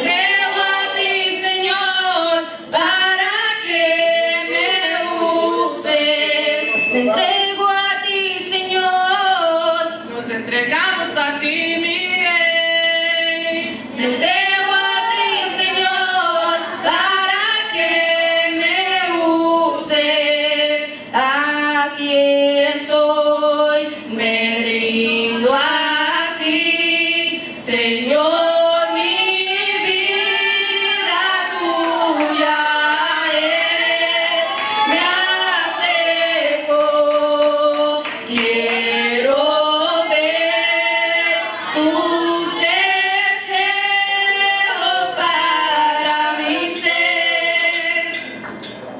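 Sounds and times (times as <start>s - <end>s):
choir singing worship song: 0.0s - 10.1s, 12.2s - 48.5s.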